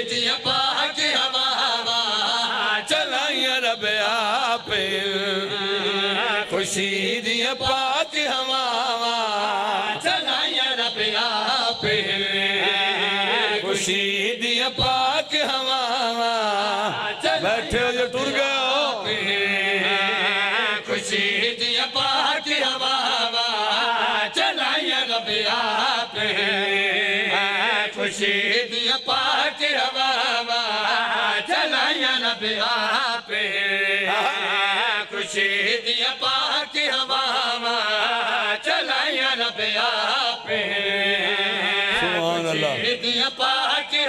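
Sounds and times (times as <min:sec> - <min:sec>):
men chanting through microphones: 0:00.0 - 0:44.0.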